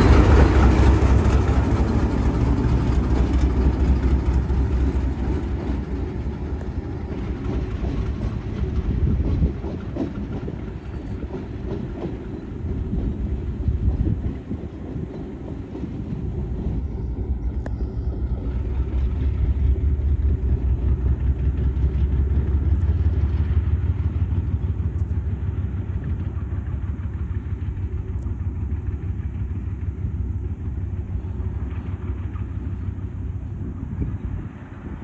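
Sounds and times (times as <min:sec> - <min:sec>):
diesel locomotive engine rumble: 0:00.0 - 0:35.0.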